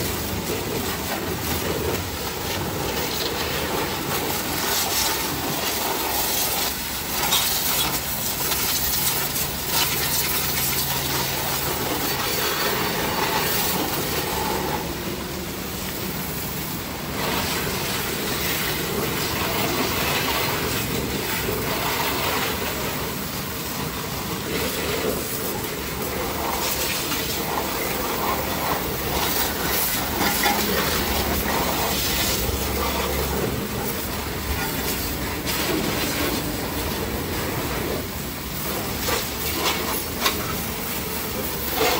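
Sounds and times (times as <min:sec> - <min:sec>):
pressure washer jet spraying: 0:00.0 - 0:41.9
washer pump low hum: 0:00.0 - 0:41.9.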